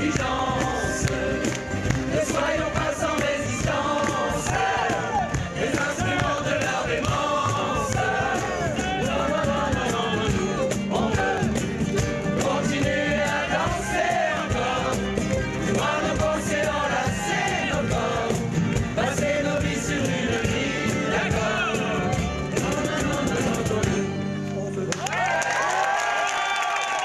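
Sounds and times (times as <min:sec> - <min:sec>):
crowd singing in chorus: 0:00.0 - 0:24.3
acoustic guitars: 0:00.0 - 0:24.9.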